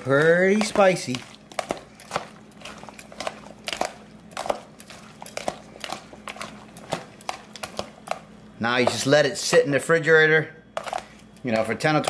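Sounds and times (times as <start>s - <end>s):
tongs clicking and scraping bowl: 0.0s - 9.8s, 10.8s - 12.0s.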